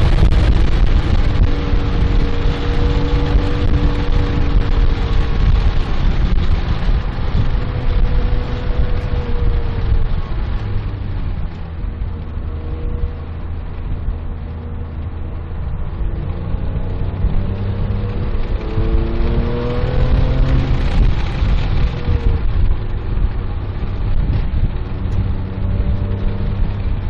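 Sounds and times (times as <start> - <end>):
car engine running hard: 0.0 - 27.0
road and wind rumble: 0.0 - 27.0.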